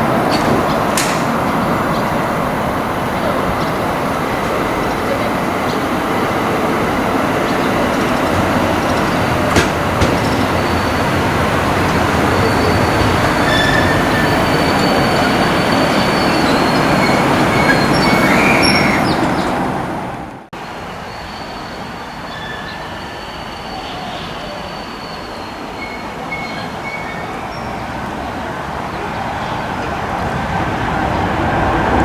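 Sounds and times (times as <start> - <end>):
high wheel squeals: 0.0 - 30.3
train rolling on rails: 0.0 - 32.0.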